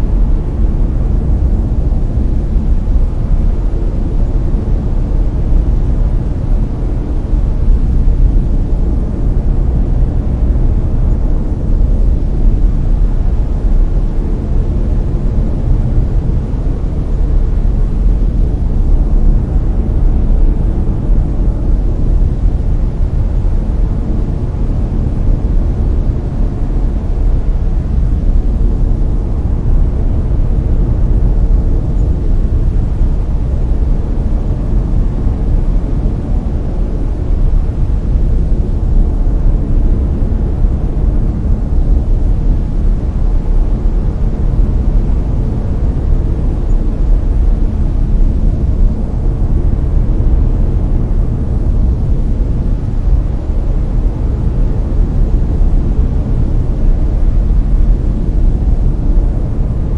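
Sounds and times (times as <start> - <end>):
deep rumbling brown noise: 0.0 - 59.9.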